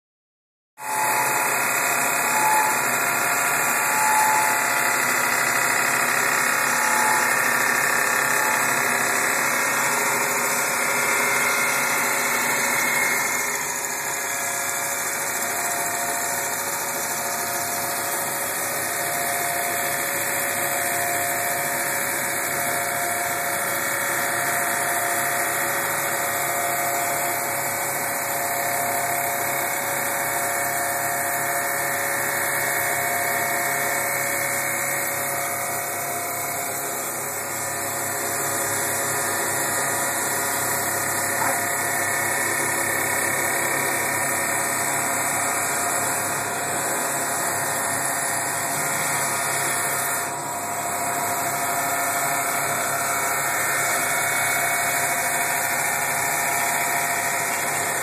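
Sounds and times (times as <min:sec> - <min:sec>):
lathe machine drone: 0:00.8 - 0:58.0.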